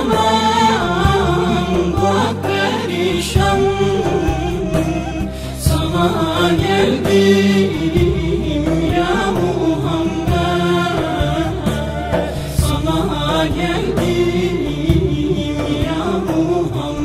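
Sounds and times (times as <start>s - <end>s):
devotional song with melody: 0.0s - 17.0s
steady musical accompaniment: 0.0s - 17.0s.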